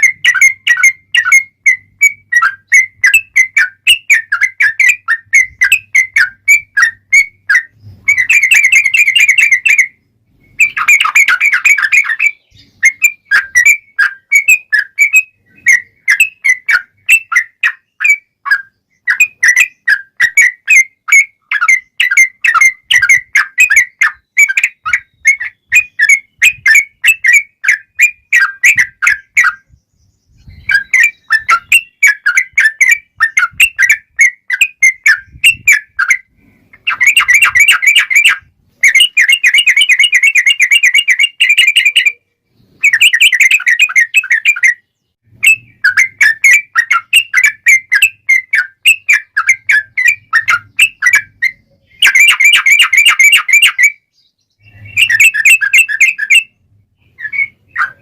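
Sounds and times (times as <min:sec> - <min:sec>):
bird singing whistled chirps: 0:00.0 - 0:58.0.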